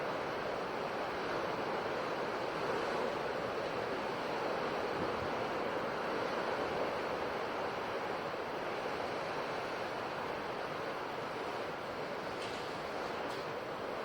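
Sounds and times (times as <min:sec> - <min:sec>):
ocean waves on shore: 0:00.0 - 0:14.0.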